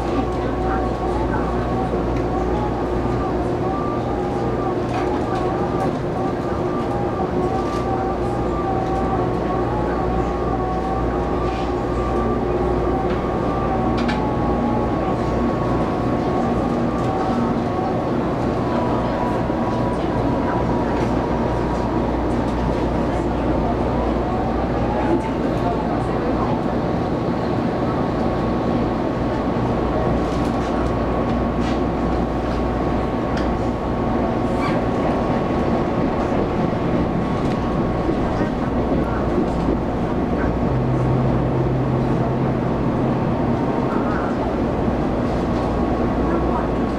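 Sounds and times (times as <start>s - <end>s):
train wheels rumbling on track: 0.0s - 46.9s
train whine: 0.0s - 46.9s.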